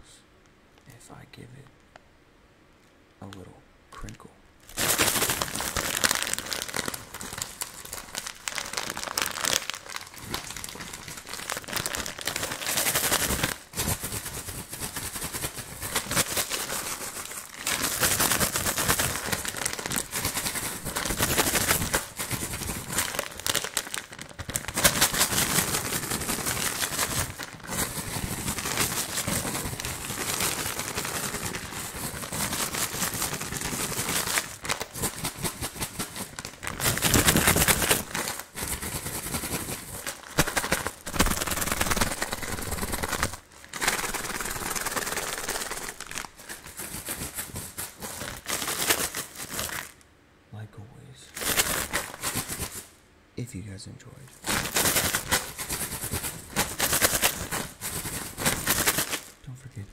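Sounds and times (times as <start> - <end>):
plastic bag crackling: 4.6 - 50.1, 51.3 - 53.0, 54.4 - 59.9.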